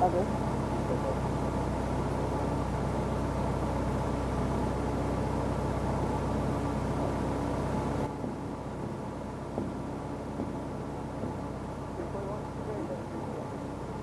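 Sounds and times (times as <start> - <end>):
ferry engines droning: 0.0 - 14.0.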